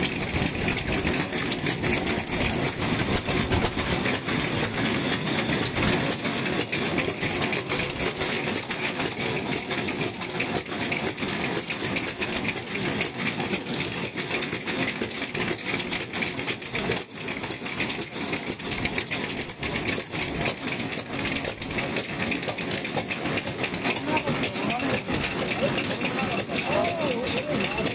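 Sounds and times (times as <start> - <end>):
stationary engine clattering: 0.0 - 27.9.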